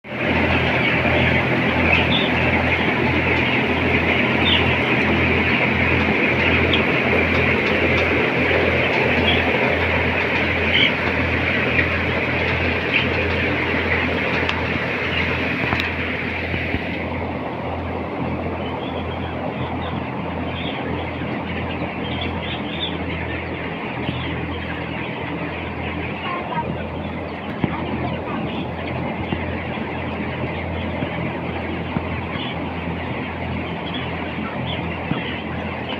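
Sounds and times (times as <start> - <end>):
ventilation fans humming: 0.0 - 35.9
flock of chickens: 0.1 - 35.9.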